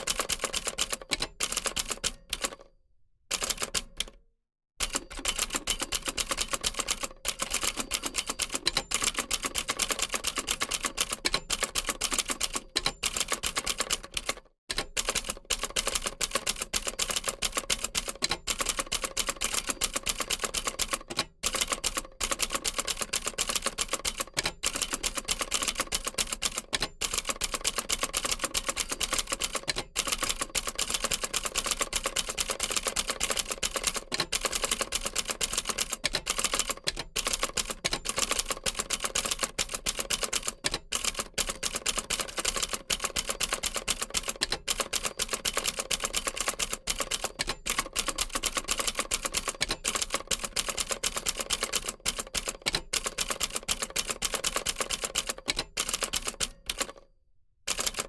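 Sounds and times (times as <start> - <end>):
typewriter typing fast: 0.0 - 2.6, 3.3 - 4.2, 4.8 - 57.0, 57.7 - 58.0.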